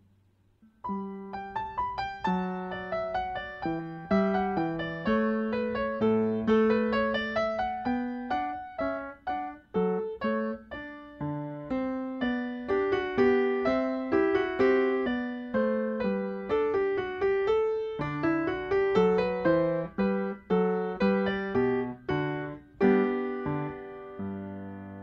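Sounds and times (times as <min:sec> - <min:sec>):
classical solo piano: 0:00.8 - 0:25.0.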